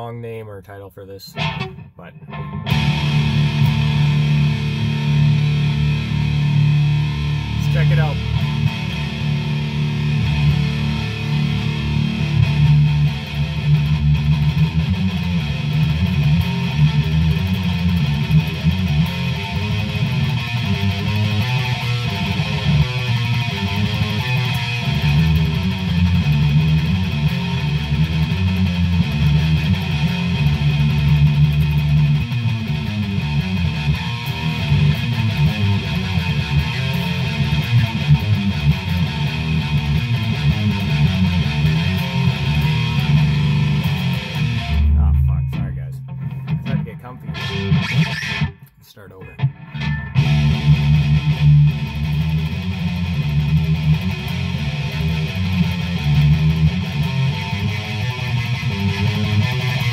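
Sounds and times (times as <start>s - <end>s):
electric guitar riff: 0.0s - 59.9s.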